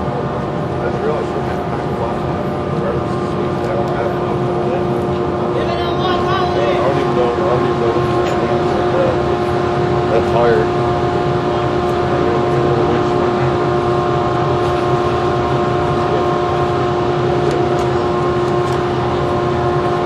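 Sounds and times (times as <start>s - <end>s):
machine drone with whine: 0.0s - 20.0s.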